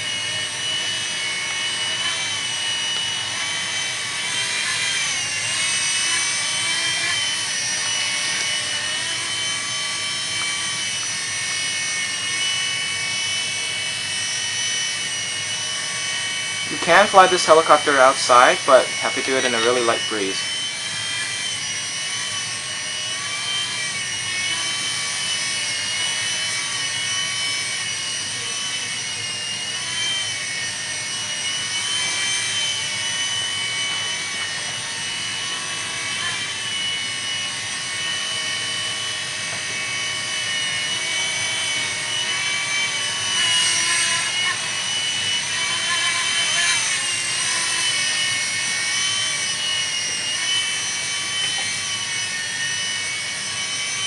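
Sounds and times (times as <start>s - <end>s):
micro helicopter rotor whine: 0.0s - 54.0s.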